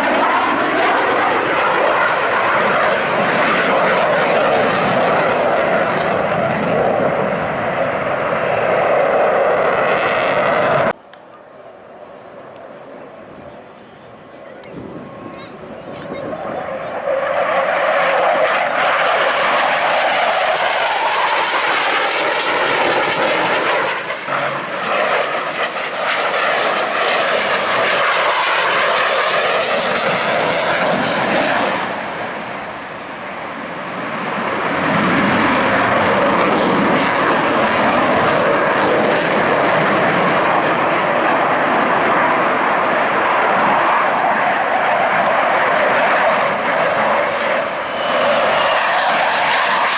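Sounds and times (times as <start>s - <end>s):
fighter jet engines roaring: 0.0s - 49.9s.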